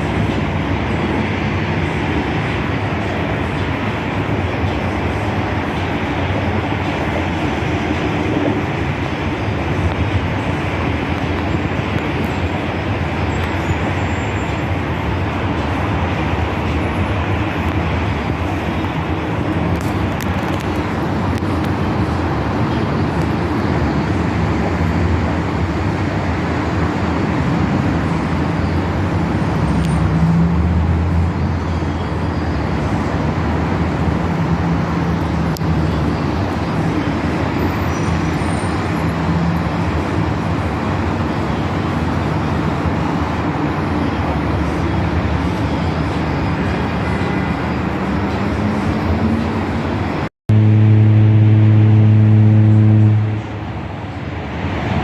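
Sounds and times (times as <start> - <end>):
road traffic noise: 0.0 - 55.0.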